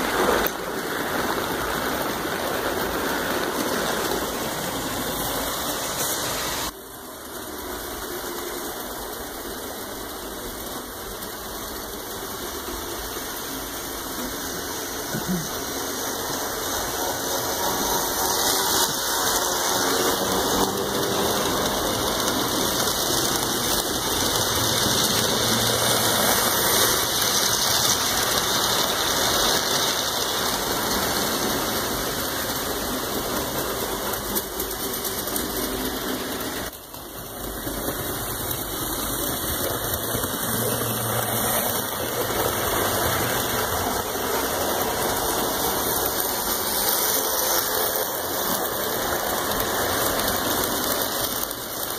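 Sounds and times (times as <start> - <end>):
model train whirring: 0.0 - 51.9.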